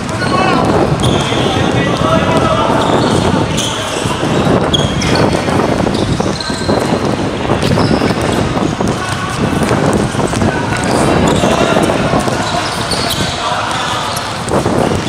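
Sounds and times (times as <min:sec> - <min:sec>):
basketball bouncing: 0:00.0 - 0:15.0
running footsteps: 0:00.0 - 0:15.0
sneaker squeaks: 0:00.0 - 0:15.0.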